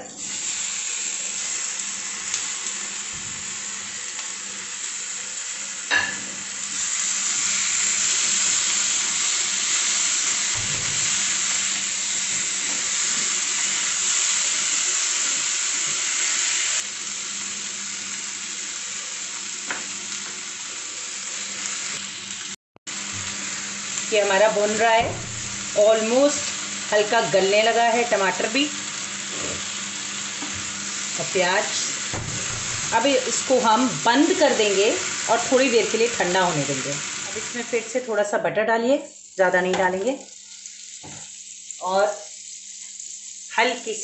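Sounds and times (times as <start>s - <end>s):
vegetables sizzling in butter: 0.0s - 44.0s.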